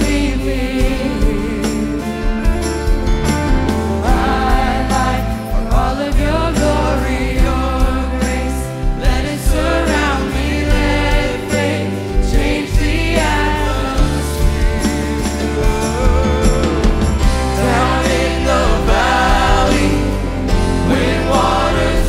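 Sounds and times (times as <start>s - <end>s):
choir singing: 0.0s - 2.6s, 3.6s - 22.0s
band with drums and piano: 0.0s - 22.0s.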